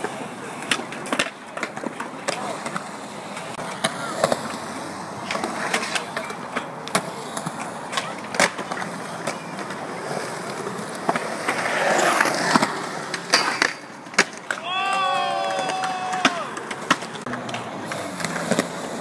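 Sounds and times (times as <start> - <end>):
skateboard wheels rolling on concrete: 0.0 - 19.0
skateboards clacking on concrete: 0.0 - 19.0.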